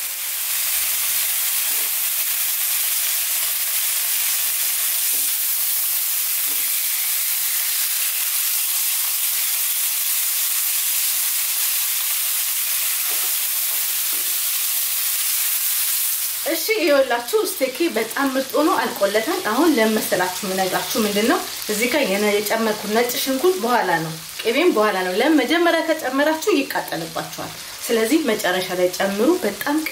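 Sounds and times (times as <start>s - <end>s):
steaks sizzling in pan: 0.0s - 29.9s.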